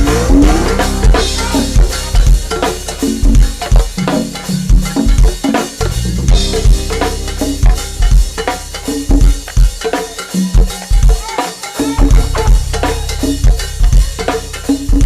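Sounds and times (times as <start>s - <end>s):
heavy bass notes: 0.0s - 10.2s, 12.1s - 15.0s
drum kit beat: 0.0s - 15.0s
live band playing: 0.0s - 15.0s.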